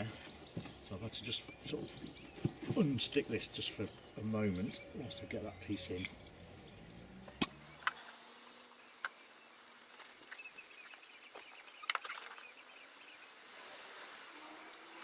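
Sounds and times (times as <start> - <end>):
faint bird chirps: 0.0 - 13.6.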